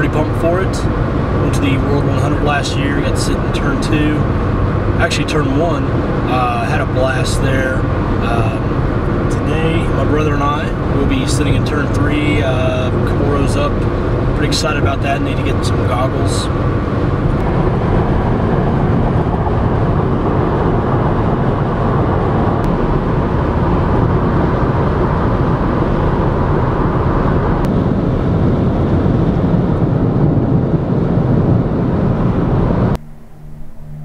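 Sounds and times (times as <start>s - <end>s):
car road and wind noise: 0.0s - 34.0s.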